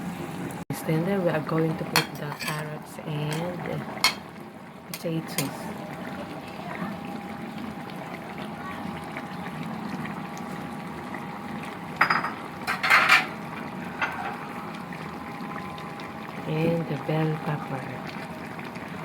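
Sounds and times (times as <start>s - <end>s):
pot simmering and bubbling: 0.0s - 19.0s.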